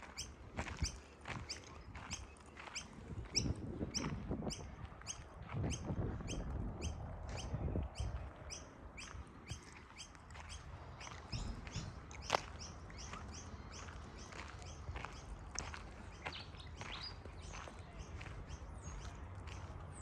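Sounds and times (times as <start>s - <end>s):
small bird chirping: 0.1s - 19.1s.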